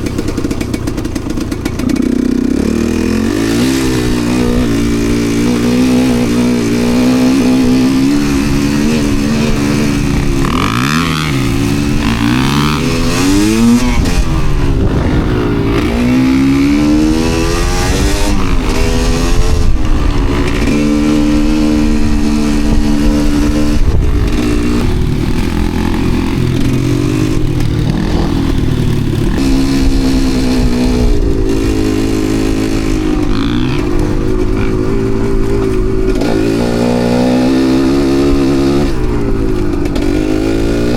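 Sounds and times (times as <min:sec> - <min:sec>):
dirt bike engine revving: 0:00.0 - 0:40.9
second dirt bike engine: 0:00.0 - 0:40.9.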